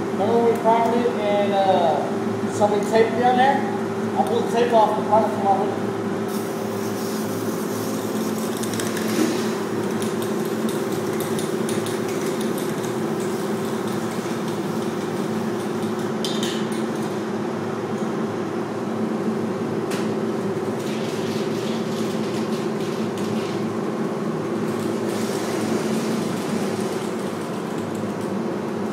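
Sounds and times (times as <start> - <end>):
ventilation fan humming: 0.0 - 28.9.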